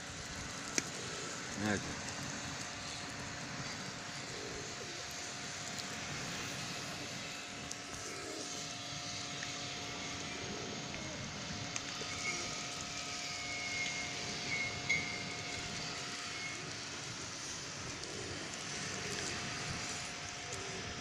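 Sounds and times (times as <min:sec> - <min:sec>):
pigeons pecking on pebbles: 0:00.1 - 0:21.0.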